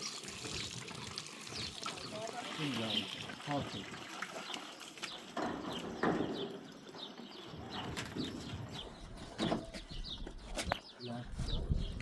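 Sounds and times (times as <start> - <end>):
small birds chirping: 1.4 - 12.0.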